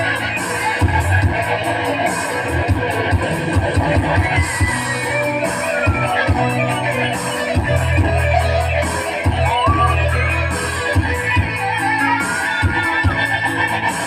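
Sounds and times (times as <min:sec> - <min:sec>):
electronic keyboard music: 0:00.0 - 0:14.0.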